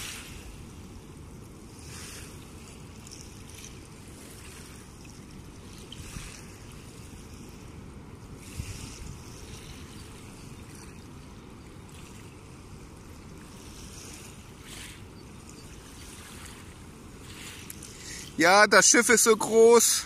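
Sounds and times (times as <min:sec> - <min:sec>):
wind buffeting microphone: 0:00.0 - 0:17.8
river waves lapping: 0:00.0 - 0:20.0.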